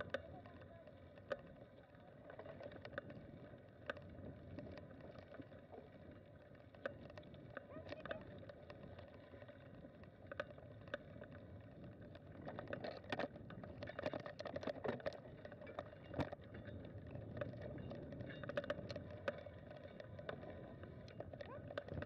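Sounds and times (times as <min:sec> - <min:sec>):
bicycle rolling on dirt trail: 0:00.0 - 0:22.0
bike rattles and clicks: 0:00.0 - 0:22.0.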